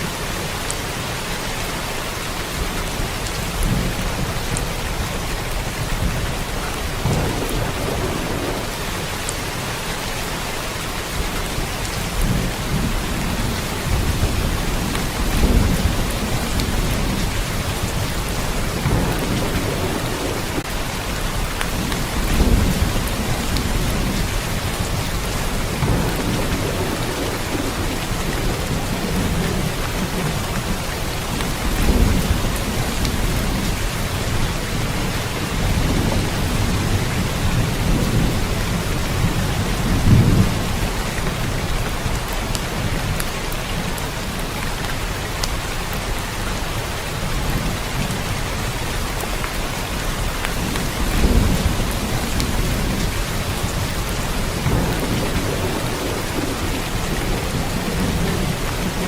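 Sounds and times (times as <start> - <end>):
steady rain: 0.0 - 59.0
thunder rumbling: 3.0 - 9.9, 11.1 - 44.6, 47.1 - 59.0.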